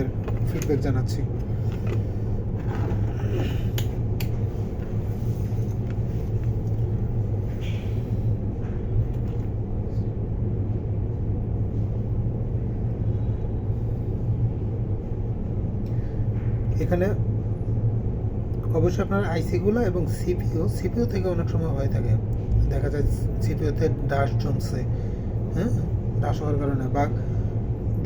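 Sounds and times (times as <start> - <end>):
low hum and rumble: 0.0 - 28.0.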